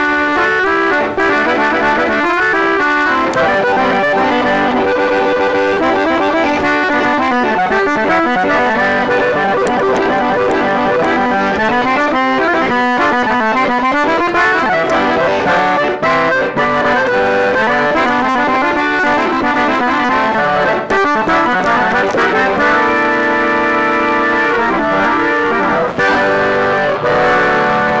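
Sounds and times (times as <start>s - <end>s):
button accordion playing: 0.0s - 28.0s.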